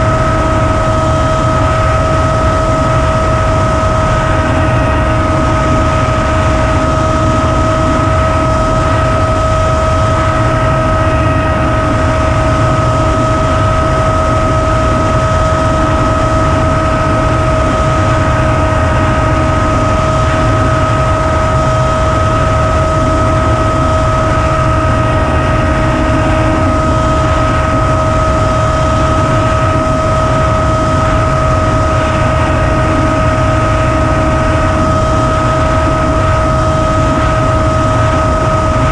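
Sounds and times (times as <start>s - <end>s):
loud wind rush: 0.0s - 38.9s
motor and propeller whine: 0.0s - 38.9s.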